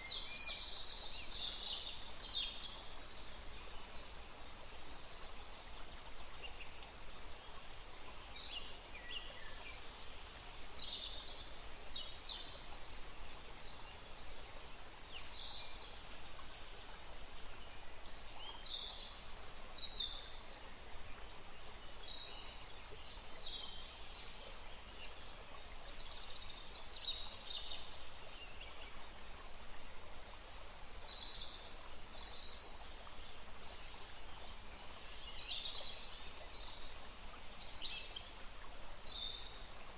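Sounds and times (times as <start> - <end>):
background hiss: 0.0 - 39.9
songbirds chirping: 0.0 - 39.9.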